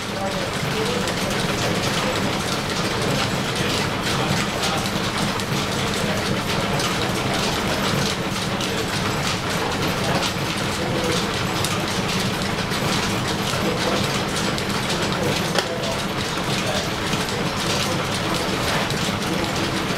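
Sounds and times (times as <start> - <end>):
milling machine clattering: 0.0 - 19.9.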